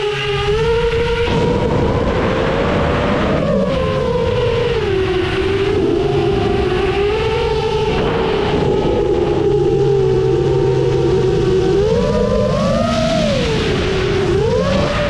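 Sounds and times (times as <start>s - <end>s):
drone motors whining: 0.0s - 15.0s
rushing noise: 0.0s - 15.0s.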